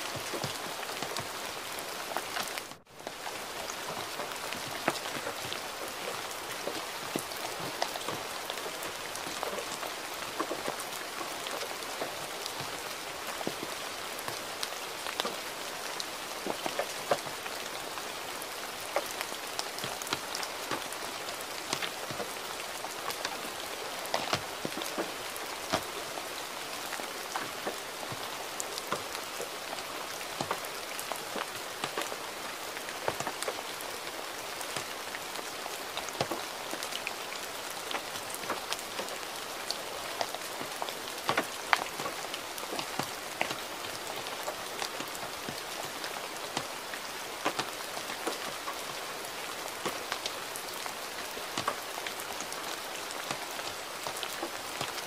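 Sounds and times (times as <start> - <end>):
gentle rain hiss: 0.0 - 55.0
raindrops tapping: 0.0 - 55.0.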